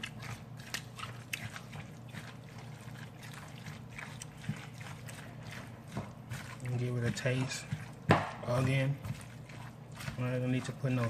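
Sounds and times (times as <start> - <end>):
spoon stirring wet salad: 0.0 - 11.0.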